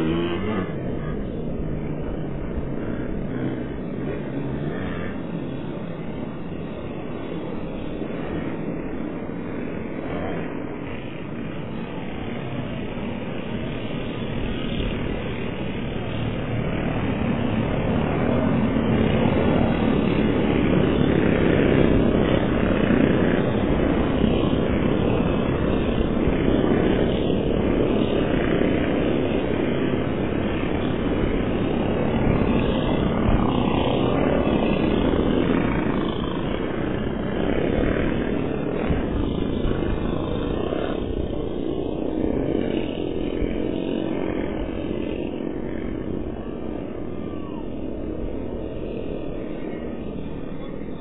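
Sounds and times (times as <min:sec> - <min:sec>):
small kart engines buzzing: 0:00.0 - 0:51.0.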